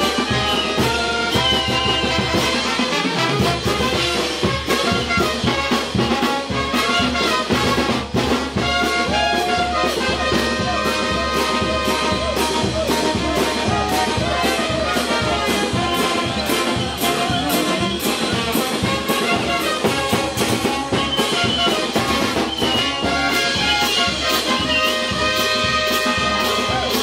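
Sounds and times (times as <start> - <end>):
brass band playing dance music: 0.0 - 27.0
steady drum beat: 0.0 - 27.0.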